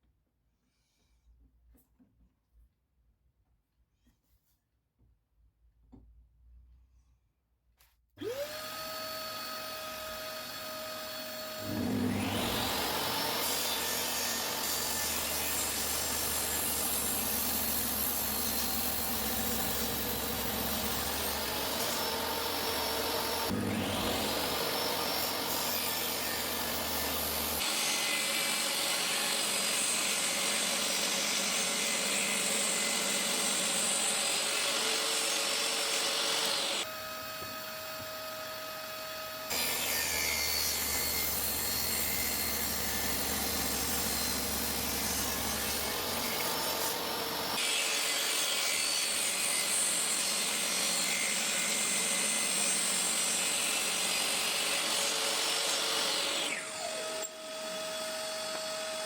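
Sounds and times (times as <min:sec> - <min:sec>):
saw blade cutting wood: 0:08.2 - 0:59.0
table saw motor whine: 0:08.2 - 0:59.0.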